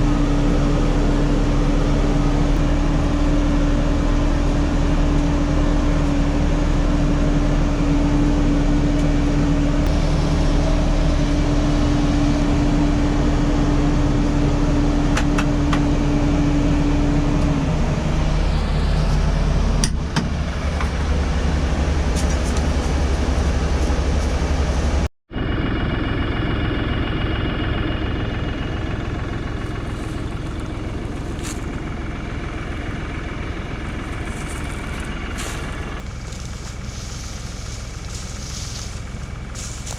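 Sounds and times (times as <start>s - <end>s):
steady hum: 0.0s - 39.9s
vehicle engine running: 0.0s - 39.9s.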